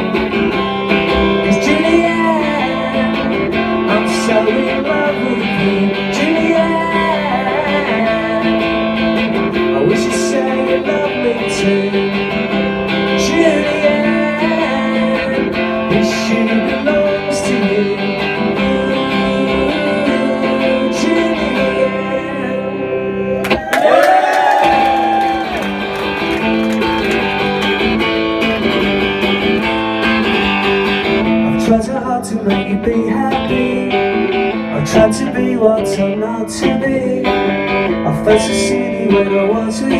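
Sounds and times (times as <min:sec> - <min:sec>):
man singing: 0:00.0 - 0:23.5, 0:31.3 - 0:39.9
electric guitar strumming: 0:00.0 - 0:39.9.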